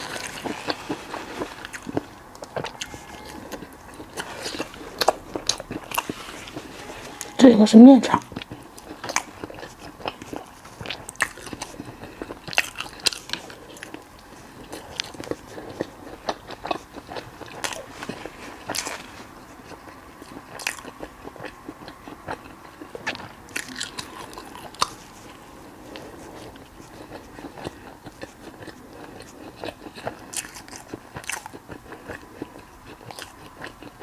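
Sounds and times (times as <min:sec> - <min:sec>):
crunchy chewing: 0:00.0 - 0:07.2, 0:08.1 - 0:34.0.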